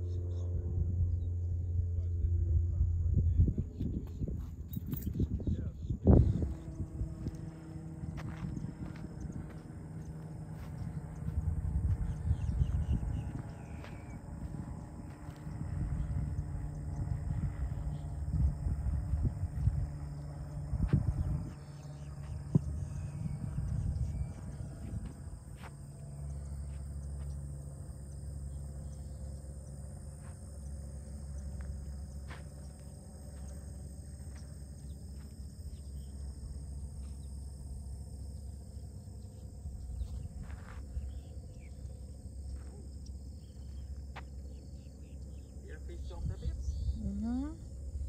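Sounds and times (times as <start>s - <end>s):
low outdoor rumble: 0.0s - 48.0s
insects trilling: 3.6s - 48.0s.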